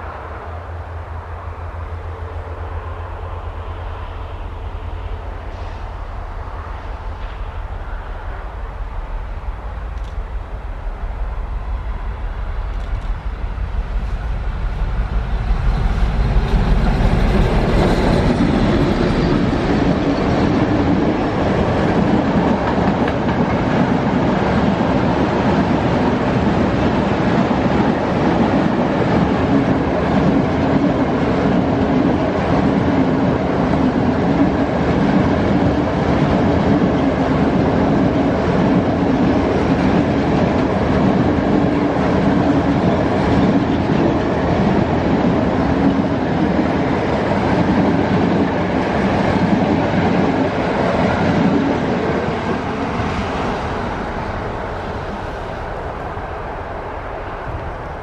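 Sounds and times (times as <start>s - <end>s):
diesel locomotive engine rumble: 0.0s - 58.0s
train wheels clattering on rails: 5.1s - 58.0s.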